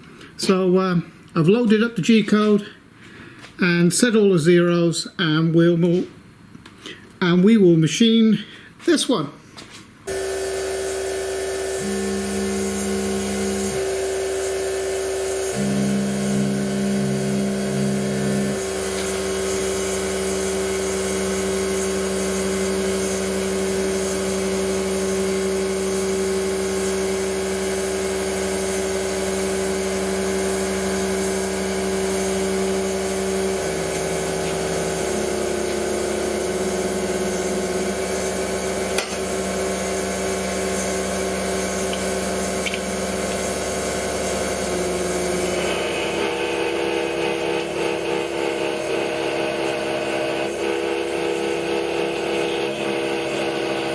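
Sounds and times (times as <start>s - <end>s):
milling machine motor whine: 10.1s - 53.9s.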